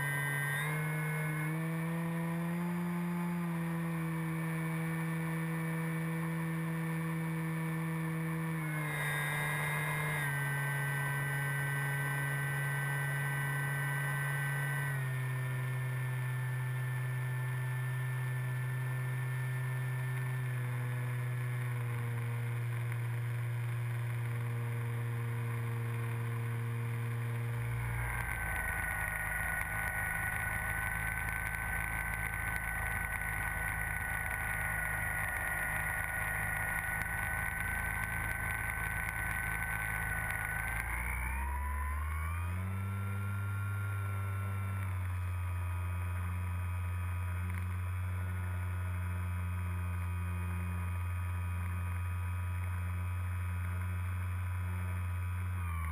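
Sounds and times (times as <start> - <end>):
model airplane motor droning: 0.0 - 55.9.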